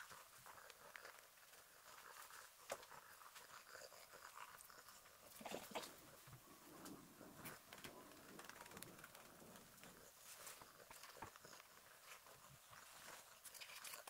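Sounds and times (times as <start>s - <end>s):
faint rustles: 0.0s - 14.0s.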